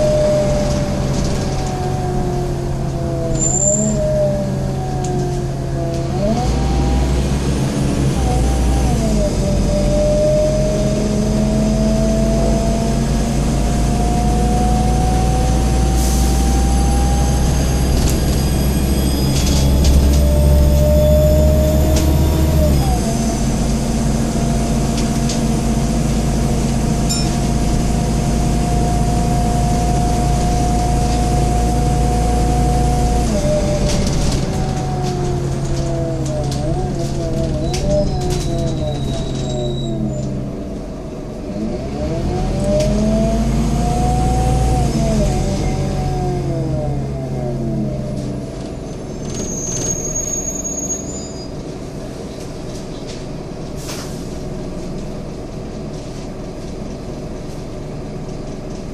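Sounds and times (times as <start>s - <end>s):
bus diesel engine whine: 0.0s - 58.9s.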